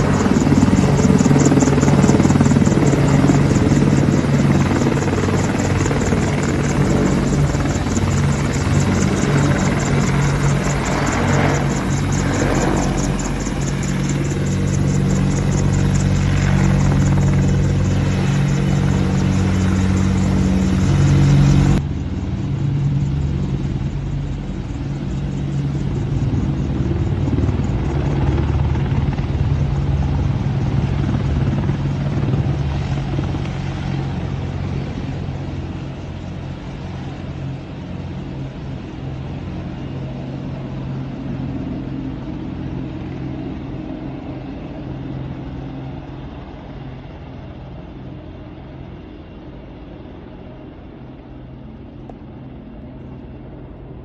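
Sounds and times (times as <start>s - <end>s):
helicopters flying: 0.0s - 54.0s.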